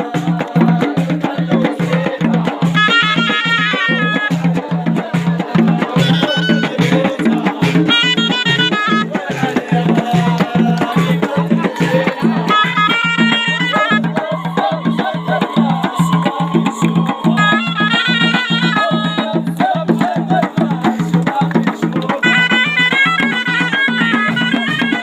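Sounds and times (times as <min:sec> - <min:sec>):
fast drum beat: 0:00.0 - 0:25.0
shawm playing folk melody: 0:02.7 - 0:04.6, 0:05.8 - 0:20.4, 0:21.0 - 0:25.0.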